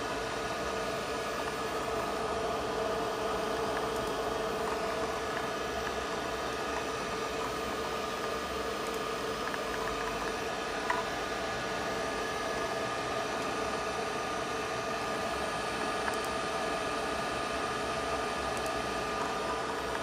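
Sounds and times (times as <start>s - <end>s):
equipment humming: 0.0s - 20.0s.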